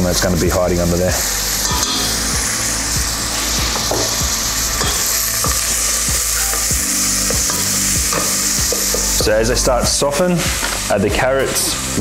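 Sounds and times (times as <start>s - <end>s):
onions sizzling in a pot: 0.0s - 12.0s.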